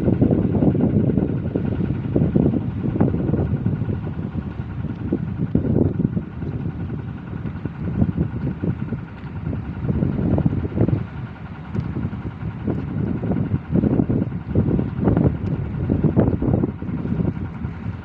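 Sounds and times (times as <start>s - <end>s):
faint steady whine: 0.0s - 18.0s
gusty wind buffeting microphone: 0.0s - 18.0s.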